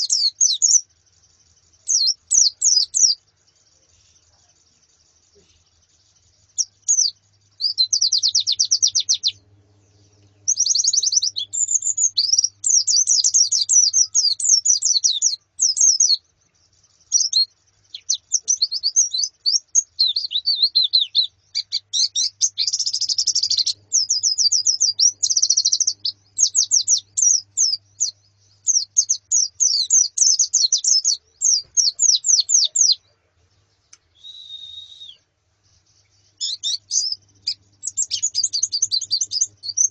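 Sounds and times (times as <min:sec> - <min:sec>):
birds trilling chirps: 0:00.0 - 0:39.9.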